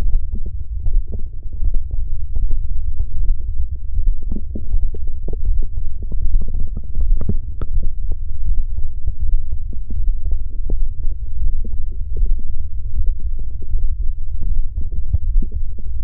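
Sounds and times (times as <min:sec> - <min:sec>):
stomach growling and gurgling: 0:00.0 - 0:16.0.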